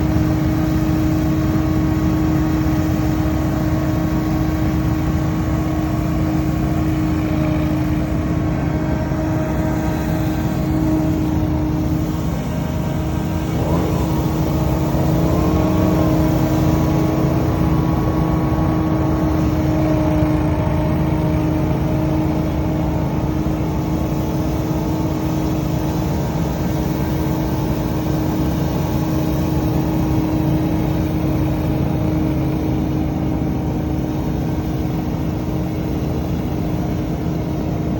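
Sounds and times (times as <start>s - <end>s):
leaf blower running: 0.0s - 37.9s.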